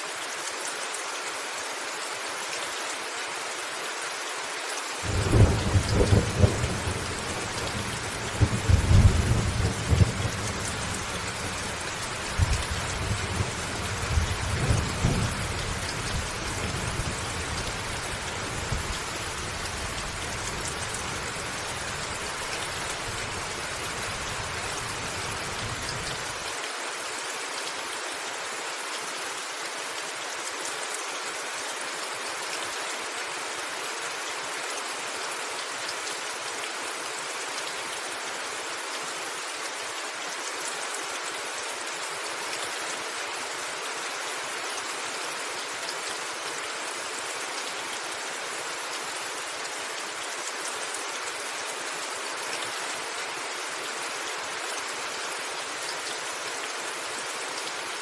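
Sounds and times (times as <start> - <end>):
rain falling on a roof: 0.0 - 58.0.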